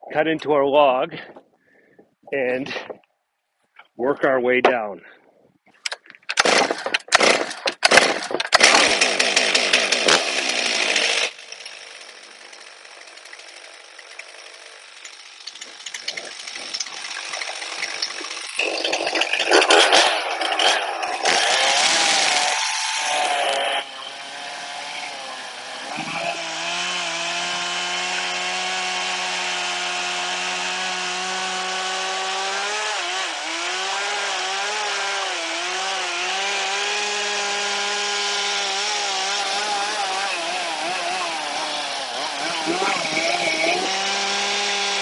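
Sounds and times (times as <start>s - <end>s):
chainsaw cutting through log: 6.3s - 45.0s.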